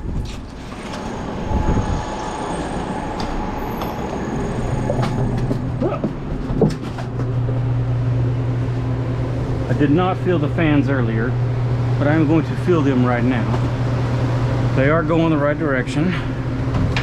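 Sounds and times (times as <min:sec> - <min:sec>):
refrigeration fans whirring: 0:00.0 - 0:17.0.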